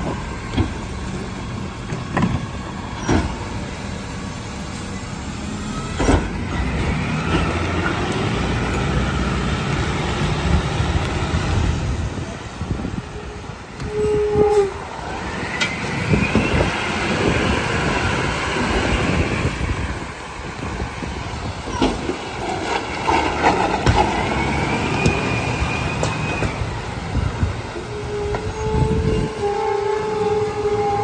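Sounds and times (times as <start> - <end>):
garbage truck diesel engine: 0.0 - 31.0
hydraulic packer working: 0.0 - 31.0
hydraulic whine: 0.0 - 31.0.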